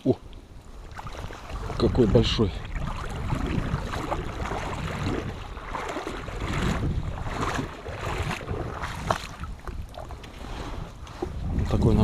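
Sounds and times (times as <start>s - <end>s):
water lapping: 0.0s - 12.0s
wind on microphone: 0.4s - 12.0s.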